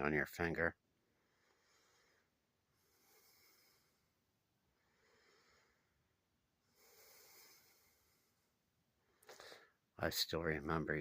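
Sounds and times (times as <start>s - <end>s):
soft breathing: 1.0s - 9.9s.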